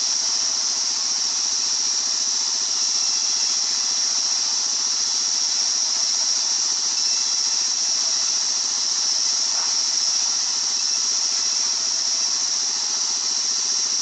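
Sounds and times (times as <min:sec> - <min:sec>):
circular saw whine: 0:00.0 - 0:14.0
sawmill engine drone: 0:00.0 - 0:14.0.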